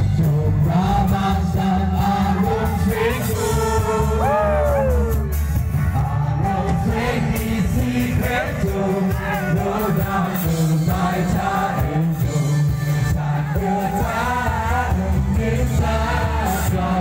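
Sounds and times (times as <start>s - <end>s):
man singing into a microphone: 0.0s - 5.1s, 5.9s - 17.0s
bass: 0.0s - 17.0s
electric and acoustic guitars: 0.0s - 17.0s.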